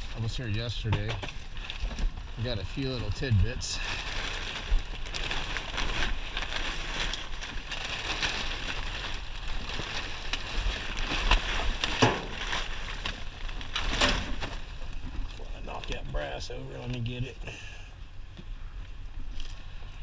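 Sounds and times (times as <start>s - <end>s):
steady rustle: 0.0s - 17.3s.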